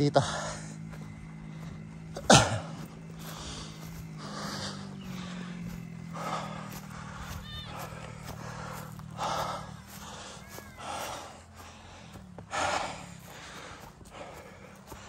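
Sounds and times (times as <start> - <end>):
person breathing hard: 0.0 - 15.0.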